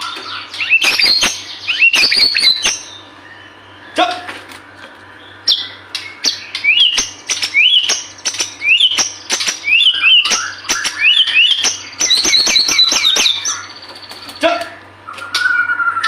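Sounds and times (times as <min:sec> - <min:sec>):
songbird whistling song: 0:00.0 - 0:04.0, 0:04.8 - 0:14.4, 0:15.0 - 0:16.0.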